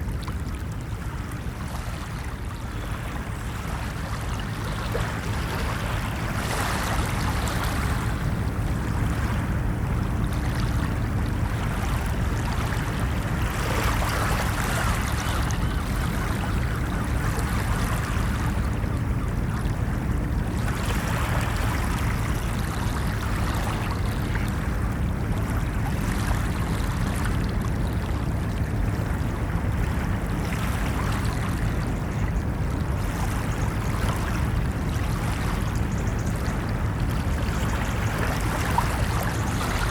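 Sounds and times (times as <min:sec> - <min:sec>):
low rumble of surf: 0:00.0 - 0:39.9
ocean waves washing onto beach: 0:00.0 - 0:39.9.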